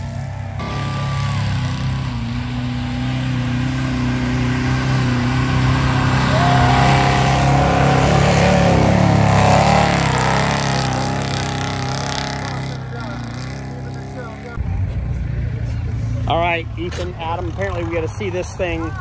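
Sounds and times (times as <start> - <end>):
off-road engine revving in sand: 0.0 - 19.0.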